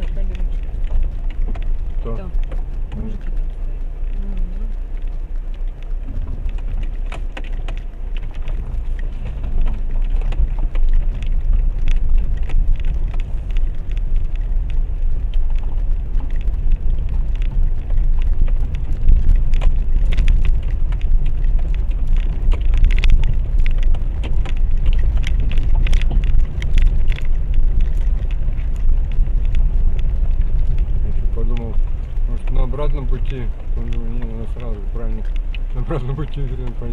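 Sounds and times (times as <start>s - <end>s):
car cabin low rumble: 0.0s - 36.9s
stones knocking under tyres: 0.0s - 36.9s.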